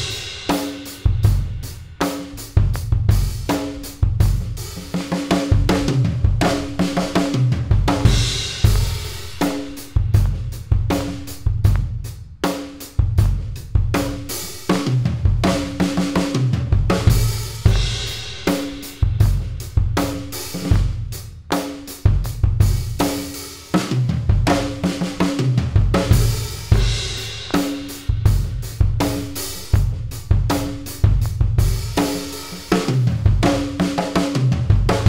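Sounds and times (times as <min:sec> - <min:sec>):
acoustic drum kit playing: 0:00.0 - 0:35.0.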